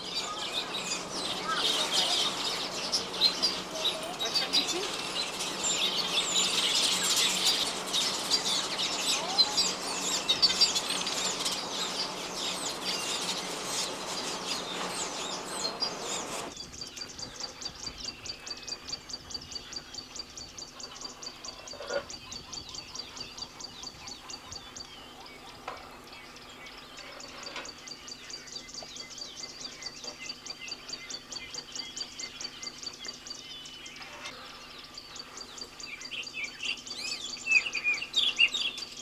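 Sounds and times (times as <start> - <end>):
birds chattering: 0.0 - 39.0.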